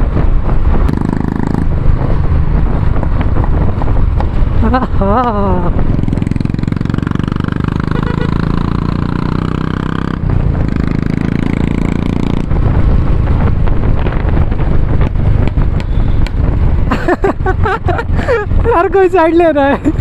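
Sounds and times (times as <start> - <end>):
motorcycle engine and exhaust running: 0.0 - 20.0
wind buffeting on microphone: 0.0 - 20.0.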